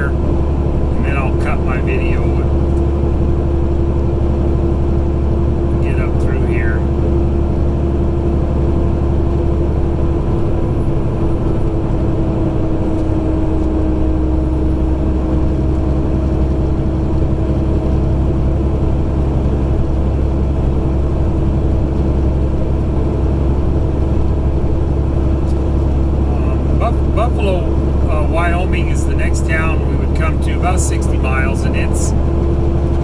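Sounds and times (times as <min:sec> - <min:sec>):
constant whine: 0:00.0 - 0:33.0
diesel truck engine drone: 0:00.0 - 0:33.0
road noise inside cab: 0:00.0 - 0:33.0.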